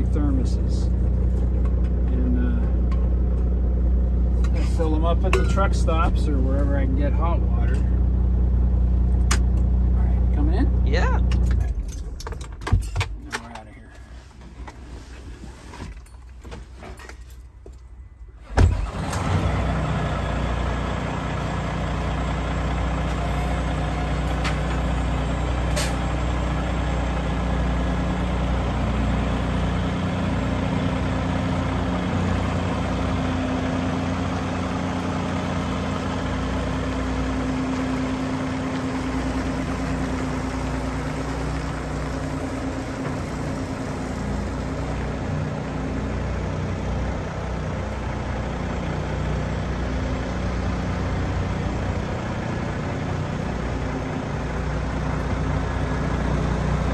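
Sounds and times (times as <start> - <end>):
diesel truck engine starting: 0.0 - 56.9.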